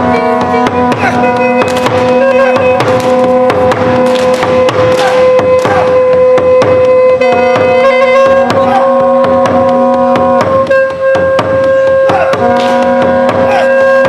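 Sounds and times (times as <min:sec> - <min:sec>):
drum strokes: 0:00.0 - 0:14.0
melody: 0:00.0 - 0:14.0.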